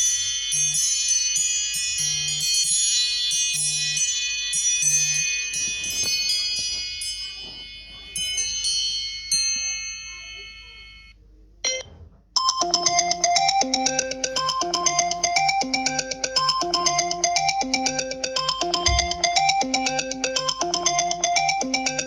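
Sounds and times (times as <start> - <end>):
chiming bell-like ringtone: 0.0 - 22.0
ringtone of quick repeated notes: 0.0 - 22.0.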